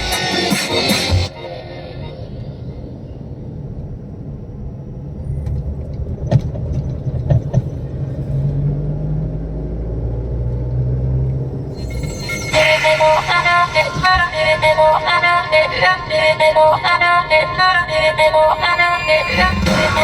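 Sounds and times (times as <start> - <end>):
motor vehicle rumbling: 2.0 - 20.0.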